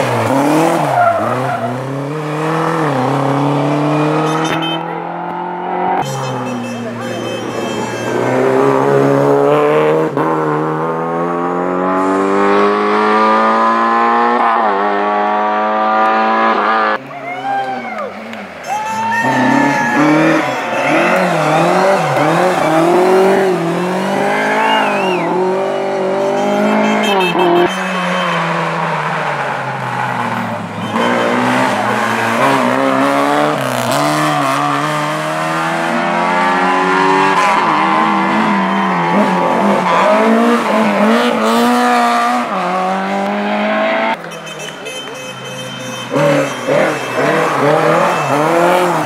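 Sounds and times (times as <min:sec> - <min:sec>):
rally car engines revving: 0:00.0 - 0:17.1, 0:17.7 - 0:44.8, 0:45.9 - 0:49.0.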